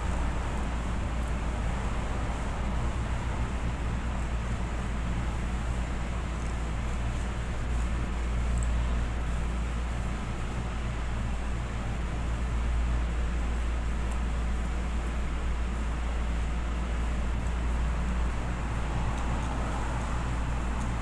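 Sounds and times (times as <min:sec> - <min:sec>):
low machine hum and rumble: 0:00.0 - 0:21.0.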